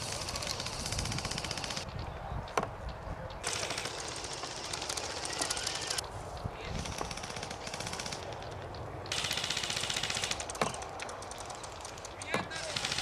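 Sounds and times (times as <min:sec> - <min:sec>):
airsoft rifles firing bursts: 0:00.0 - 0:01.8, 0:03.4 - 0:06.0, 0:06.8 - 0:13.0.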